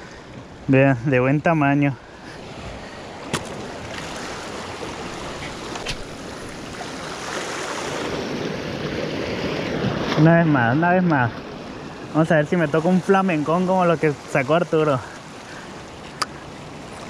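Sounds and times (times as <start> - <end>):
waves washing against rocks: 2.5 - 17.0.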